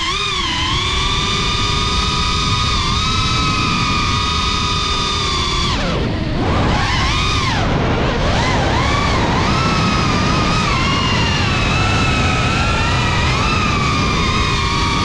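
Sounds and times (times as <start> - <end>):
drone motors whining: 0.0 - 15.0
rush of prop wash: 0.0 - 15.0.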